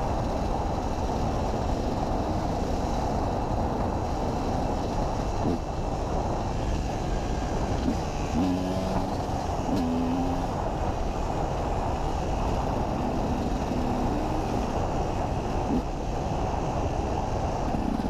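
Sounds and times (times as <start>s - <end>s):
motorcycle engine running: 0.0s - 16.2s, 16.9s - 18.0s
heavy wind rush: 0.0s - 18.0s.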